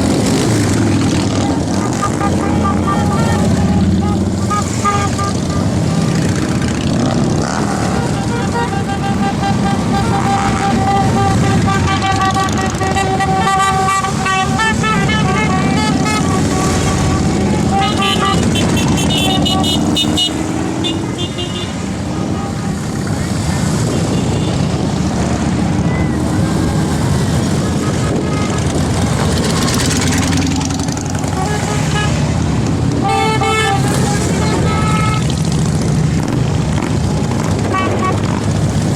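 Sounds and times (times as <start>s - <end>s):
motorcycle engines rumbling: 0.0s - 38.9s
vehicle horns: 0.1s - 25.1s, 26.2s - 35.7s, 36.7s - 38.9s.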